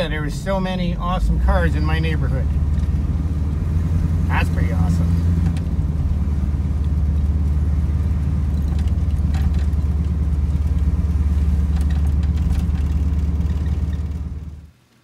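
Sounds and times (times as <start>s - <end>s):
truck engine drone from cab: 0.0s - 14.9s.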